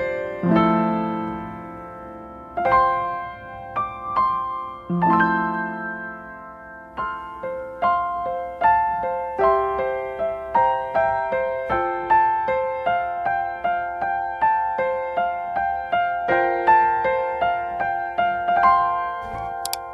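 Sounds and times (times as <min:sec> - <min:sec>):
piano playing: 0:00.0 - 0:19.9.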